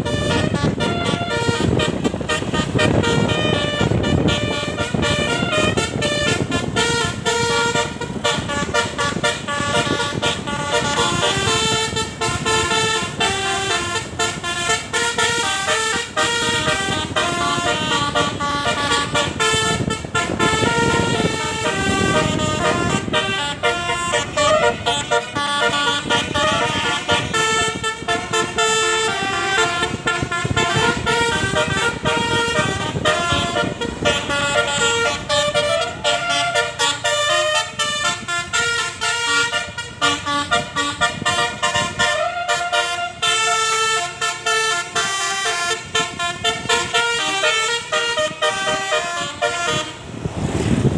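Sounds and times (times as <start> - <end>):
multi-tone air horn melody: 0.0 - 50.5.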